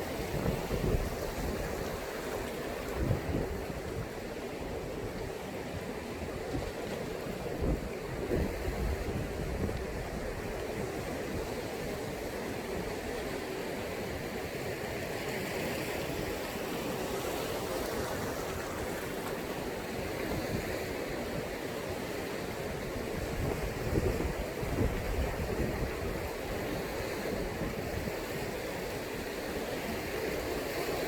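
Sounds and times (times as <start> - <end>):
sea waves washing on shore: 0.0 - 31.0.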